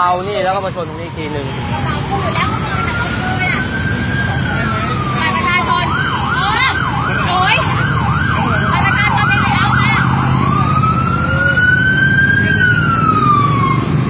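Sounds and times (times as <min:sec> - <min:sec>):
emergency vehicle siren: 0:00.0 - 0:14.0
low traffic hum: 0:00.0 - 0:14.0.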